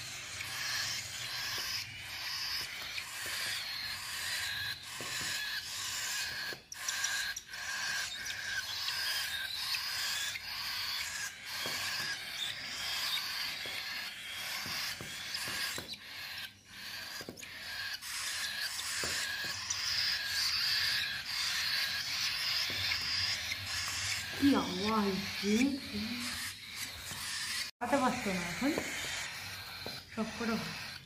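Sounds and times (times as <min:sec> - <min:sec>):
bird chick begging chatter: 0:00.0 - 0:31.0.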